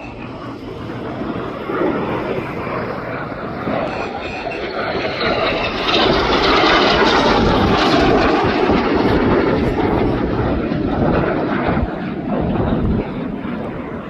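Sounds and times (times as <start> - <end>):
jet engines passing: 0.0 - 14.0.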